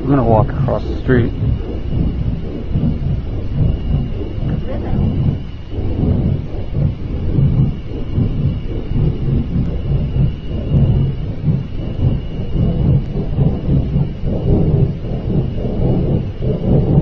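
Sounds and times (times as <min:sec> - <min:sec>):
low rumbling roar: 0:00.0 - 0:17.0.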